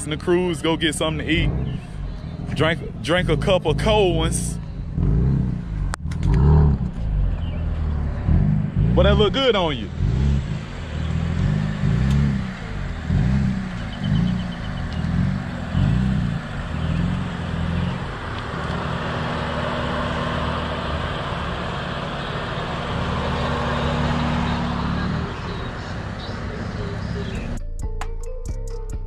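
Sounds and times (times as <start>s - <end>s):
car engine revving and idling: 0.0s - 27.6s.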